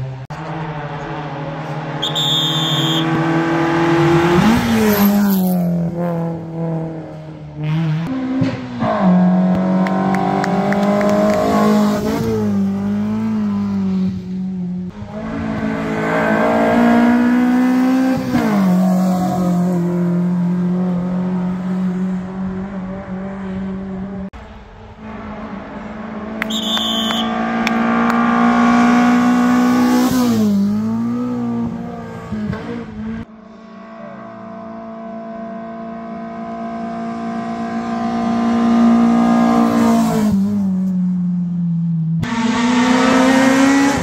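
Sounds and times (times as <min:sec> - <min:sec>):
rally car engines at full throttle: 0:00.0 - 0:44.0.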